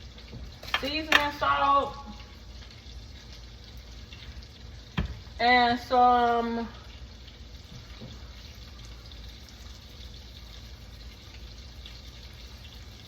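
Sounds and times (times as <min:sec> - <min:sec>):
sauce sizzling in a pan: 0:00.0 - 0:13.0.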